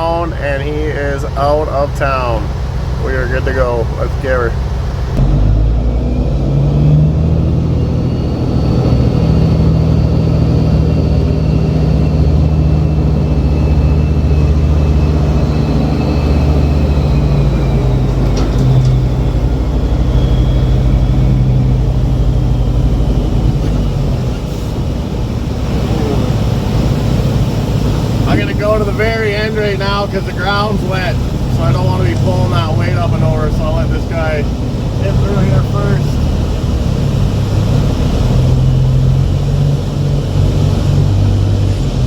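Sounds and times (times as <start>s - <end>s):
truck diesel engine under load: 0.0s - 42.0s.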